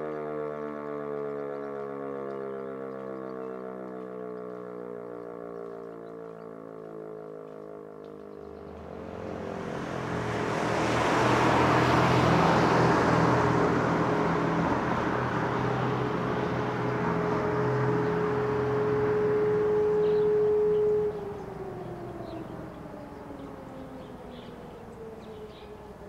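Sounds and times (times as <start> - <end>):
distant motor siren: 0.0 - 26.0.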